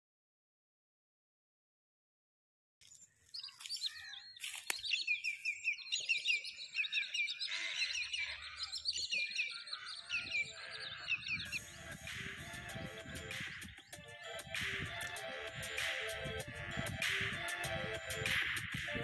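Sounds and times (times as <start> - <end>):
small birds chirping: 2.8 - 19.0.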